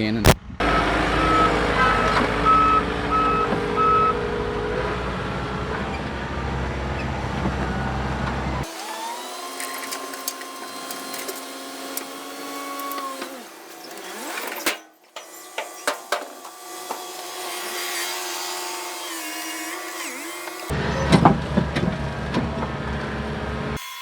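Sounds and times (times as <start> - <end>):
tractor engine running with whine: 0.2 - 23.8.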